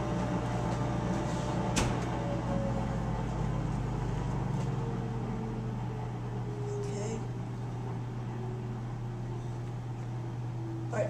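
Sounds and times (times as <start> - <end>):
dust collection system drone: 0.0 - 11.0.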